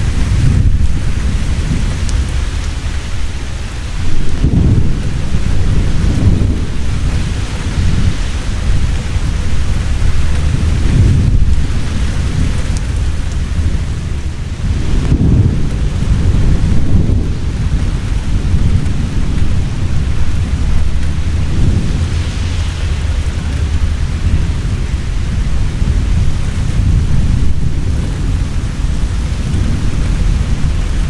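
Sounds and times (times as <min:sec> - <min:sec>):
heavy rain falling: 0:00.0 - 0:31.0
thunder rumbling: 0:00.0 - 0:31.0.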